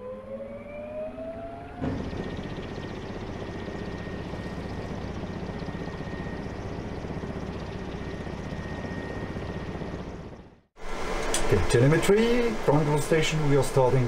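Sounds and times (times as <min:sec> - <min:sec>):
electric rotors pulsing: 0:00.0 - 0:14.0
high whine: 0:00.0 - 0:14.0.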